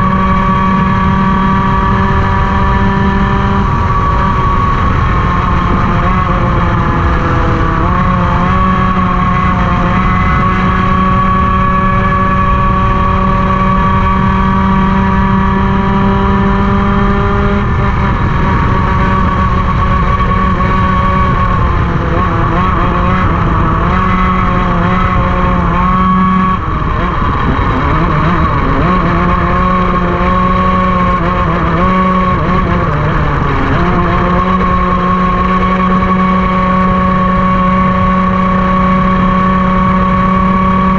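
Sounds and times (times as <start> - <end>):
kart engine at high revs: 0.0 - 40.9.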